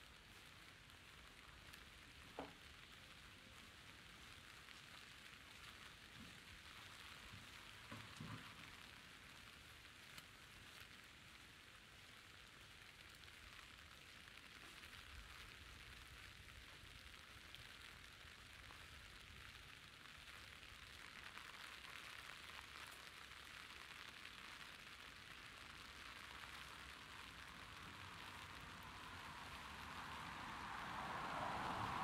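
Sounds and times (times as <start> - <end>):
faint rain on wet street: 0.0 - 32.0.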